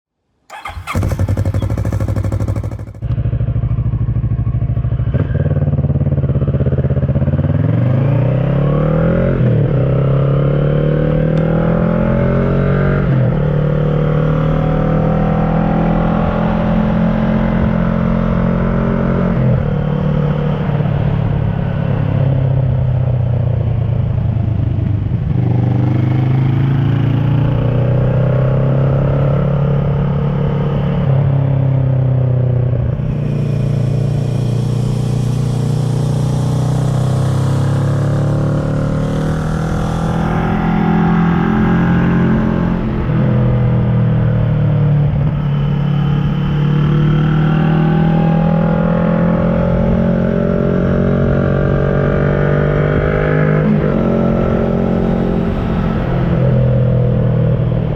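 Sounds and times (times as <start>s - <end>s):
motorcycle engine revving through gears: 0.5s - 57.9s.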